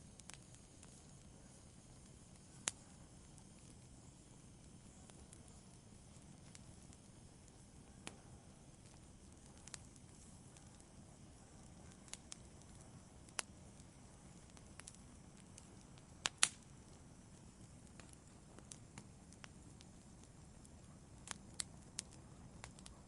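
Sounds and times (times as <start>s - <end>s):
fireplace fire crackling: 0.0s - 23.0s.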